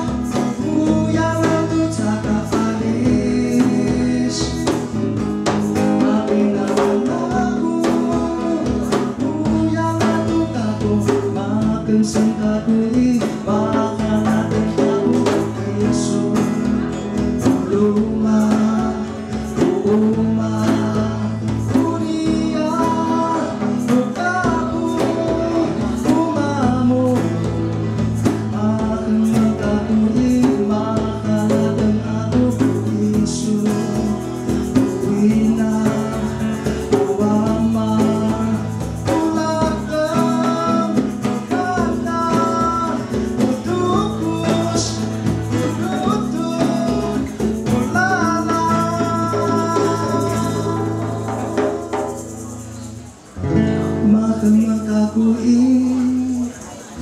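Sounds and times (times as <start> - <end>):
men singing: 0.0 - 52.5, 53.8 - 57.0
acoustic guitar strumming: 0.0 - 57.0
hand drum beats: 0.0 - 57.0.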